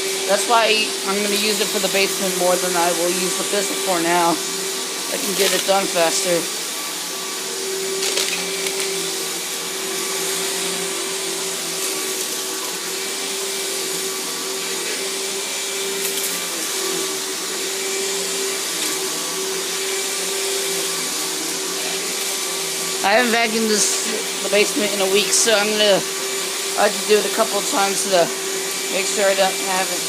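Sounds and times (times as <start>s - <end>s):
vacuum cleaner on carpet: 0.0s - 30.0s.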